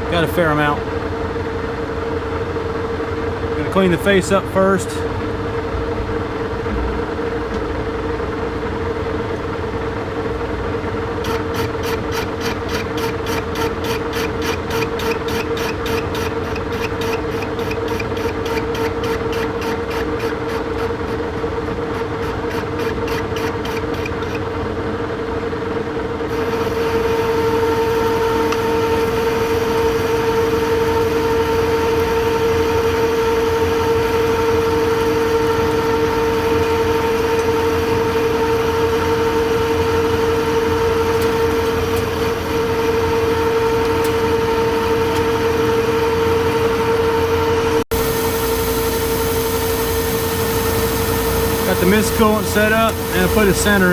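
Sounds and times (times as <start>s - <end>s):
lathe whining: 9.4s - 25.5s, 26.1s - 53.9s.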